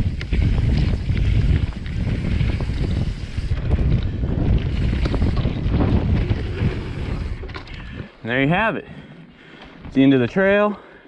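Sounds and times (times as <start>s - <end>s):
bike tyre roar and rattle: 0.0s - 10.1s
wind buffeting microphone: 0.0s - 10.4s.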